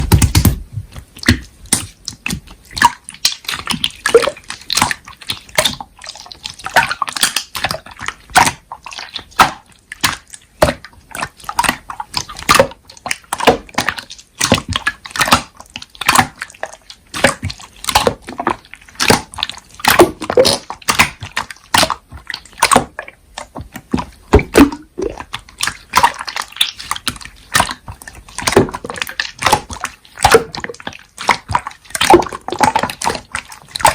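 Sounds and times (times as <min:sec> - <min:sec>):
slime squelching: 0:00.0 - 0:33.9.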